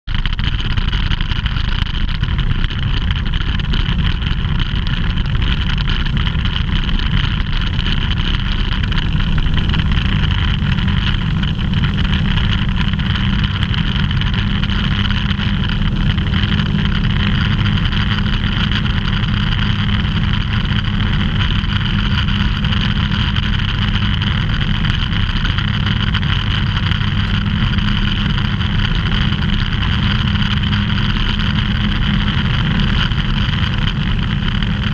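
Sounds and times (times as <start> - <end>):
aircraft engine and propeller: 0.1 - 34.9.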